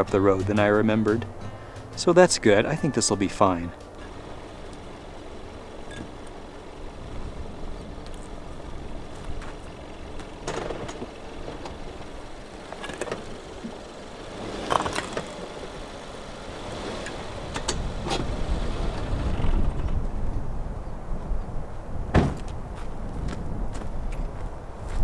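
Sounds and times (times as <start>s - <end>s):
tire knocking and crunching stones: 0.0s - 2.4s, 3.8s - 20.4s, 22.1s - 25.0s
car engine running at low revs: 0.0s - 25.0s.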